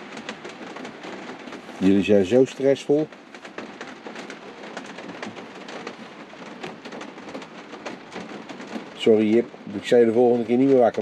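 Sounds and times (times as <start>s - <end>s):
heavy rain on a roof: 0.0s - 11.0s.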